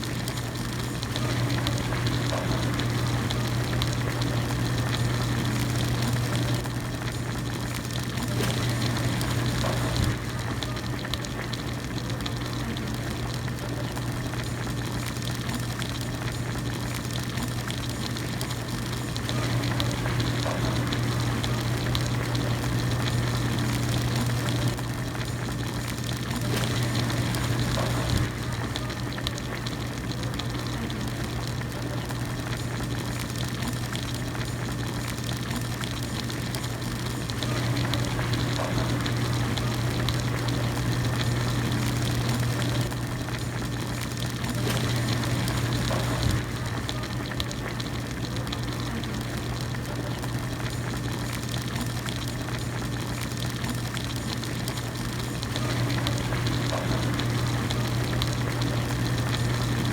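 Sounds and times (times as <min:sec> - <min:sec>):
broth bubbling: 0:00.0 - 0:59.9.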